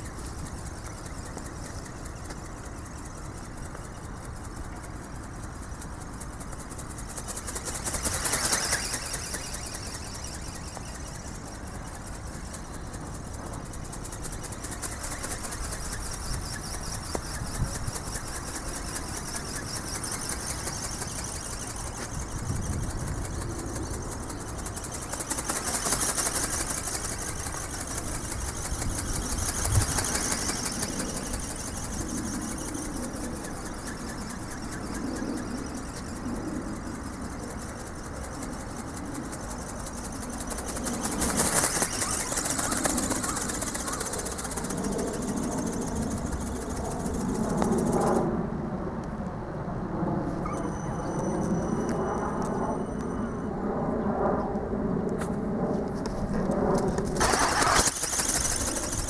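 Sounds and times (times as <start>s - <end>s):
wings flapping: 0.0s - 48.3s, 55.2s - 59.0s
wind noise: 0.0s - 59.0s.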